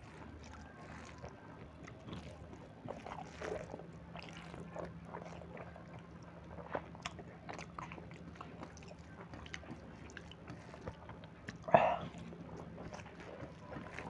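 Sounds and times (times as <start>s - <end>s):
person chewing and lip smacking: 0.0s - 14.0s.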